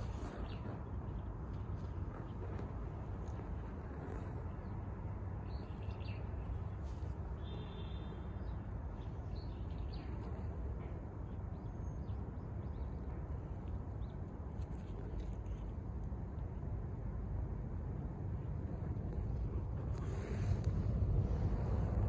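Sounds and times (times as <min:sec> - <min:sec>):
steady low rumble: 0:00.0 - 0:08.1, 0:08.7 - 0:22.0.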